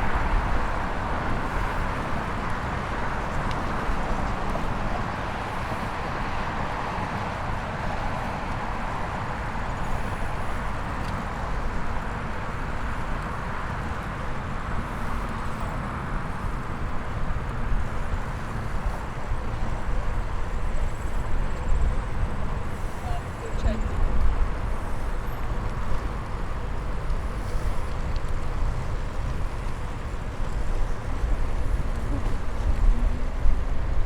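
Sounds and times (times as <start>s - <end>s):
road traffic hiss: 0.0s - 34.0s
wind buffeting microphone: 0.0s - 34.0s.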